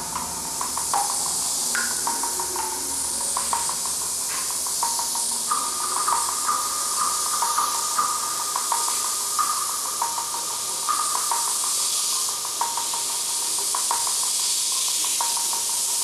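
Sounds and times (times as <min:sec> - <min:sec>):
plinking electronic notes: 0:00.0 - 0:16.0
steady high hiss: 0:00.0 - 0:16.0.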